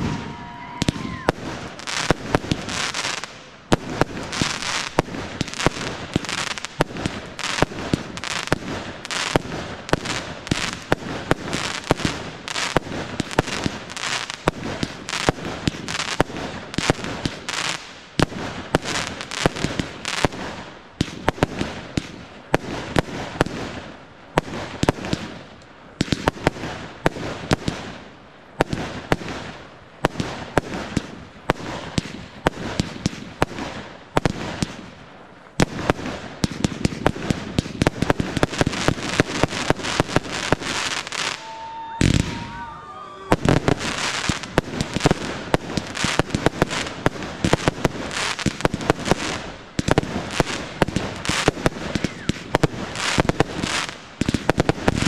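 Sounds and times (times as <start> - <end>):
fireworks launching and bursting: 0.0 - 55.0.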